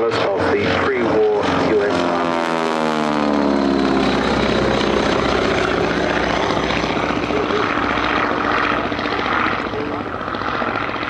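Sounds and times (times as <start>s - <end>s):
propeller plane engine in flight: 0.0s - 11.0s.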